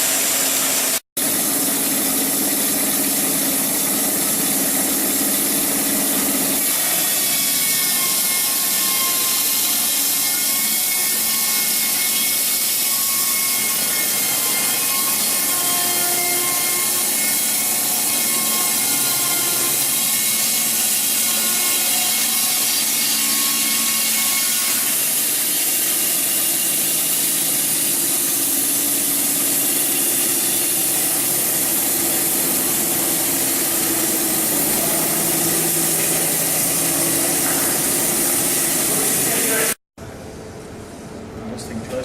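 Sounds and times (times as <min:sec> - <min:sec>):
band sawmill cutting log: 0:00.0 - 0:39.8.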